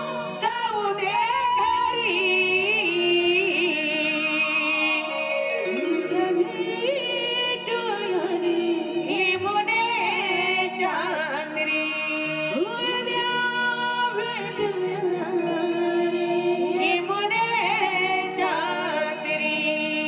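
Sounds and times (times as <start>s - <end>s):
sustained musical accompaniment: 0.0s - 20.0s
woman singing devotional folk song: 0.0s - 20.0s.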